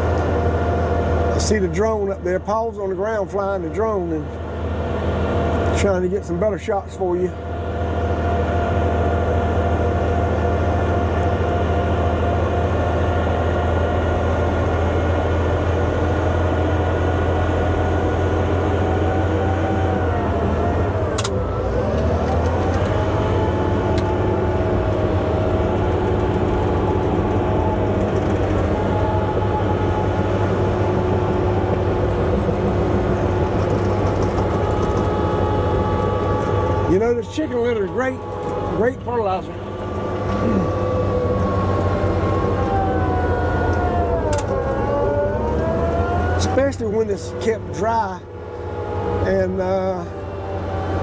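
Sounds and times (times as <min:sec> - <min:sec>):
bulldozer diesel engine: 0:00.0 - 0:51.0.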